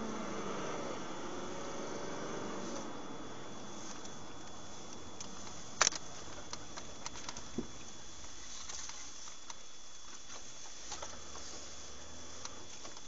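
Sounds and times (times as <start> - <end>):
faint high whine: 0.0 - 13.0
in-car driving noise: 0.0 - 13.0.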